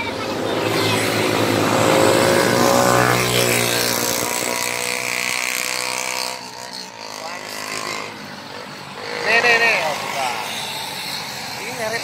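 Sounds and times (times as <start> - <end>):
bus engine droning: 0.0 - 11.8.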